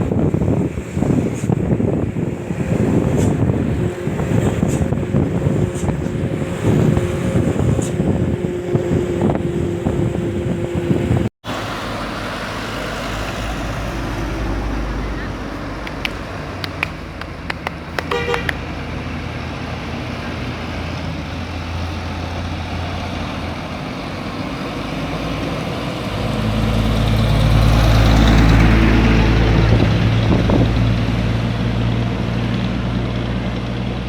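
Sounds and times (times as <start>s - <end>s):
heavy vehicle passing: 0.0s - 34.0s
roadside traffic noise: 0.0s - 34.0s.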